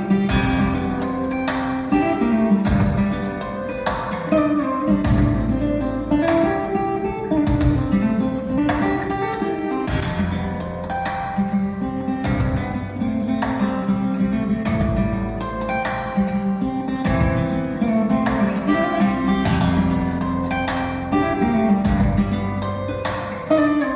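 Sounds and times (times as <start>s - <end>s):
guitar music through speakers: 0.0s - 23.9s.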